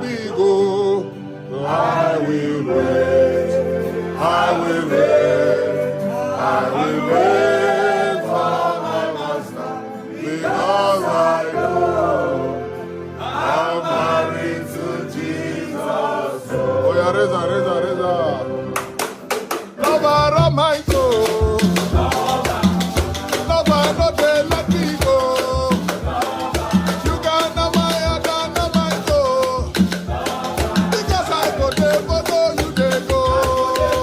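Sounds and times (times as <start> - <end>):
choir-like voices singing: 0.0 - 18.8, 19.8 - 34.0
instrumental accompaniment: 0.0 - 34.0.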